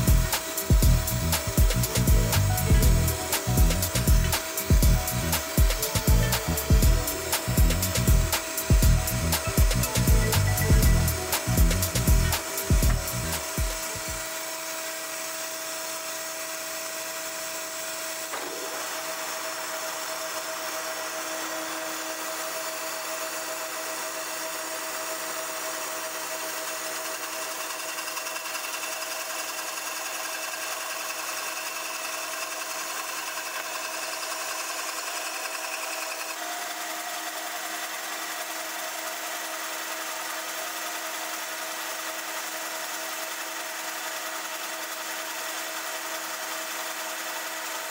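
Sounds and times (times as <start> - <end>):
hiss of wood cutting: 0.0 - 41.8
lathe machine hum: 0.0 - 47.8.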